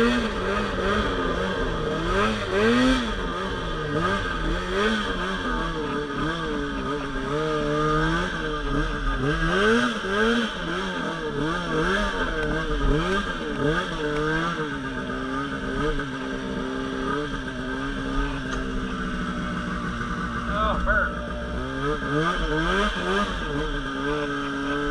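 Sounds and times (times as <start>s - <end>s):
snowmobile engine revving: 0.0s - 24.9s.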